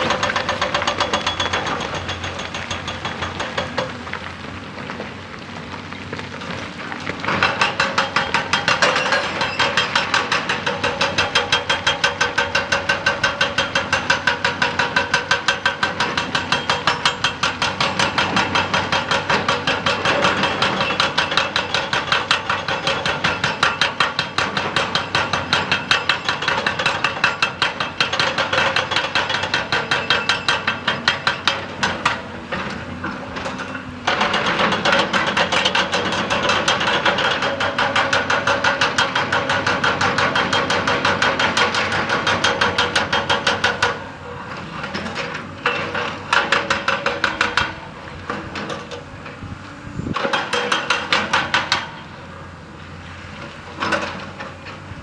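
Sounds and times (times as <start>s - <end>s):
hydraulic rock breaker hammering: 0.0s - 4.1s, 7.2s - 55.0s.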